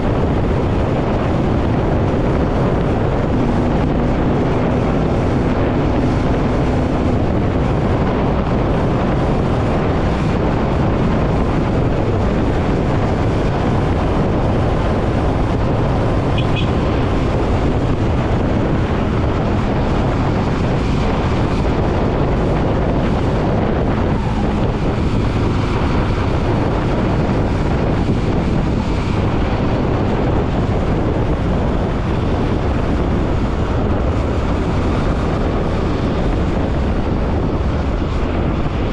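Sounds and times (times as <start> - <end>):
motorcycle engine: 0.0 - 38.9
road noise: 0.0 - 38.9
wind rushing over microphone: 0.0 - 38.9.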